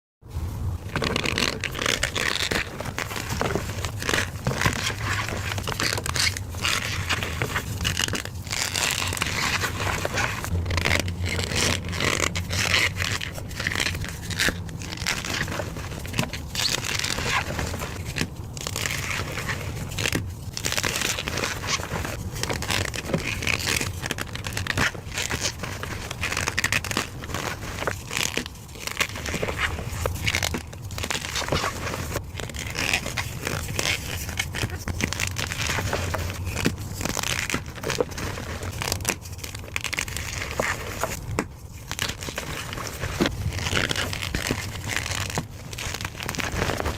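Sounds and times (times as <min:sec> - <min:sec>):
chalk being crushed: 0:00.7 - 0:46.9.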